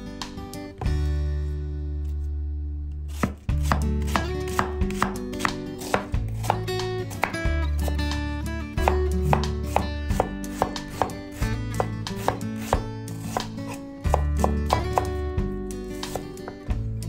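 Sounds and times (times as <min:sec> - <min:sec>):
background music: 0:00.0 - 0:17.0
knife chopping onion on board: 0:03.1 - 0:16.8.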